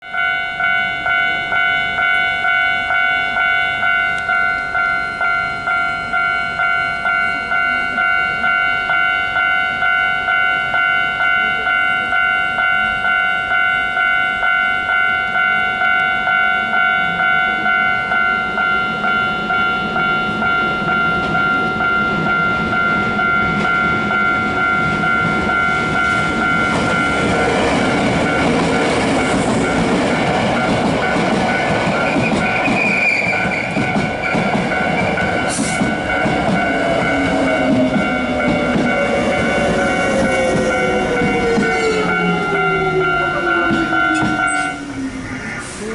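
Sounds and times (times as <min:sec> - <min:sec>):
level-crossing warning bell: 0:00.0 - 0:45.9
train passing: 0:00.1 - 0:45.9.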